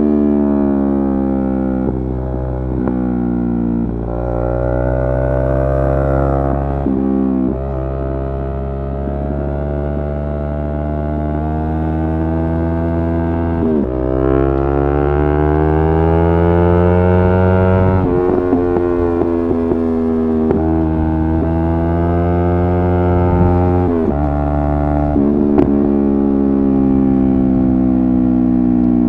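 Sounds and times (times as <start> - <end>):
motorcycle engine running: 0.0 - 10.5, 12.0 - 29.0.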